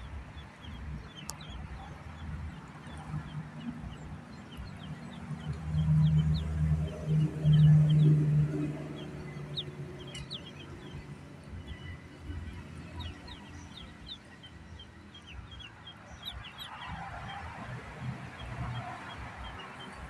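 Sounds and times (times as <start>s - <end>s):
ducklings peeping: 0.0s - 20.0s.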